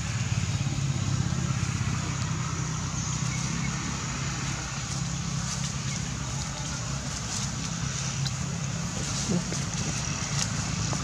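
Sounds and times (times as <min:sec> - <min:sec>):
constant hiss: 0:00.0 - 0:11.0
low mechanical hum: 0:00.0 - 0:11.0.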